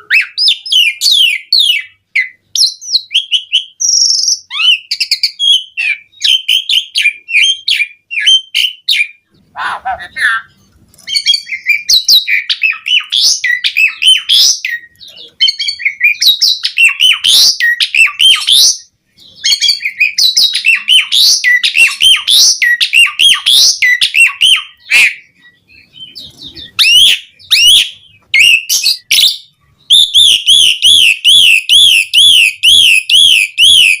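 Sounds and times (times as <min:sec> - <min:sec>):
starling chirps and whistles: 0:00.0 - 0:34.0.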